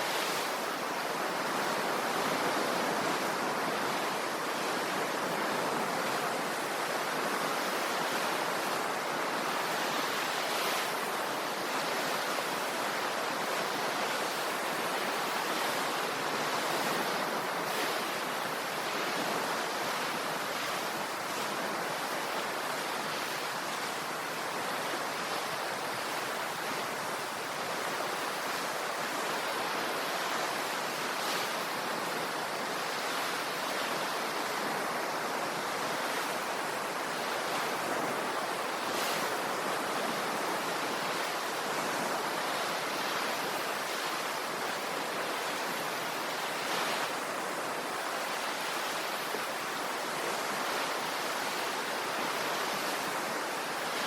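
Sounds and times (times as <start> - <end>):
ocean waves on shore: 0.0 - 54.0.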